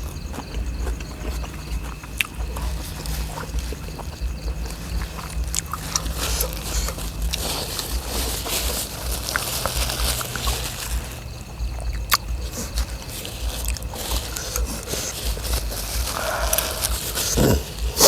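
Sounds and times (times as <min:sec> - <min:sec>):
people chewing: 0:00.0 - 0:18.0.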